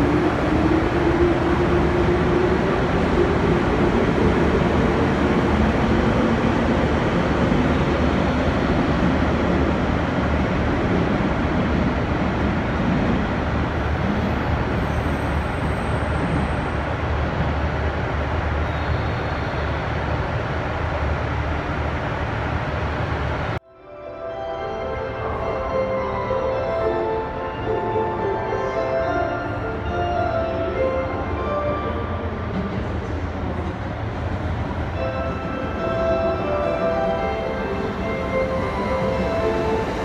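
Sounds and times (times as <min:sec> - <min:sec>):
electric train rumbling on tracks: 0:00.0 - 0:40.0.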